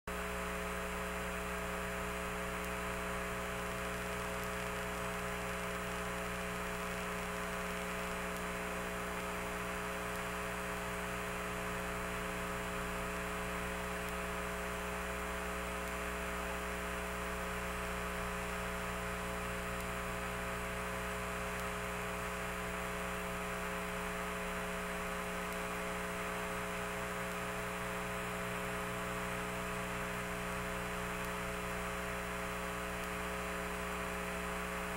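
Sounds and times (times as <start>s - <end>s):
steady electrical hum with hiss: 0.1s - 34.9s.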